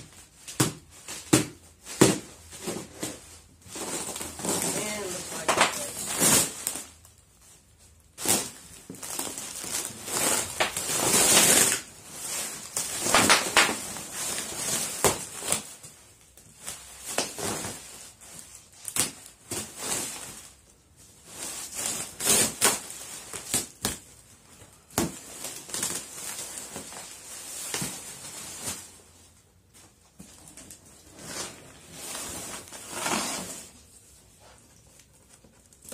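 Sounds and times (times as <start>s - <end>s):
bubble wrap crinkling: 0.0s - 35.9s.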